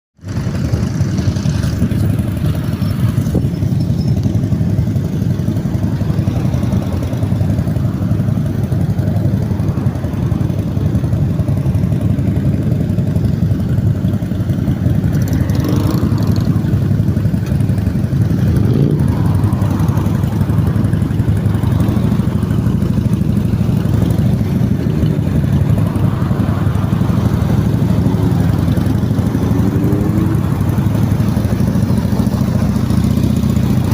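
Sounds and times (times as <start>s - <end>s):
motorcycle engines rumbling: 0.2s - 33.9s.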